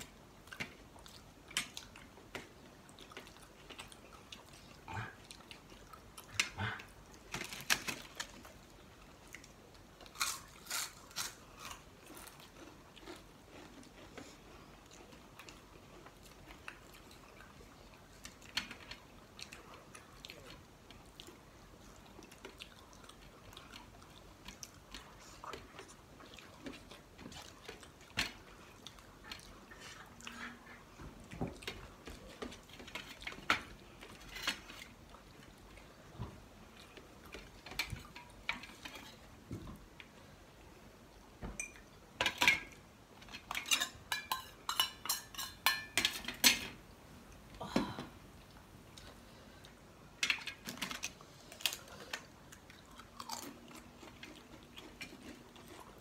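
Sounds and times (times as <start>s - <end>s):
quiet chewing: 0.0s - 41.9s, 48.3s - 56.0s.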